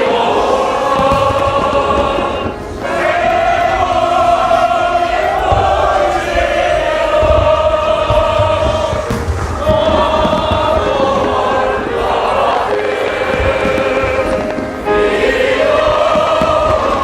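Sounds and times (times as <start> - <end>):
group singing in unison: 0.0 - 17.0.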